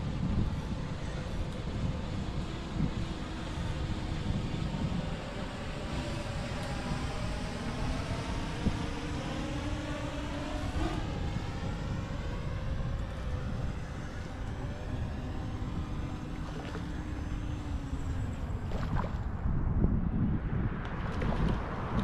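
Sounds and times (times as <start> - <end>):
motor hum: 0.0 - 19.4
wind rumbling on microphone: 0.0 - 22.0.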